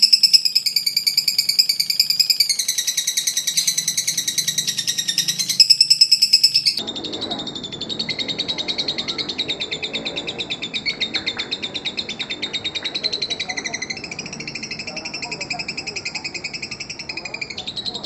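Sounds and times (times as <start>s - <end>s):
lovebirds chattering: 0.0s - 18.0s.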